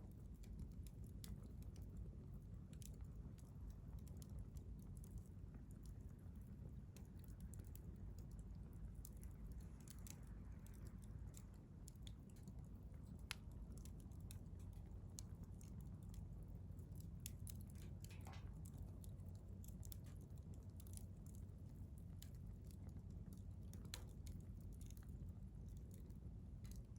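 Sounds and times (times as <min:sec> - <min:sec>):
campfire crackling and popping: 0:00.0 - 0:26.9
low rumble of flames: 0:00.0 - 0:26.9.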